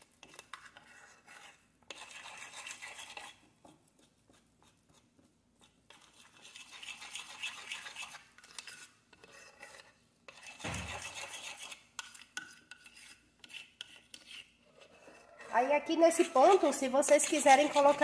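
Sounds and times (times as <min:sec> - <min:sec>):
spoon scraping batter in bowl: 0:00.0 - 0:18.0.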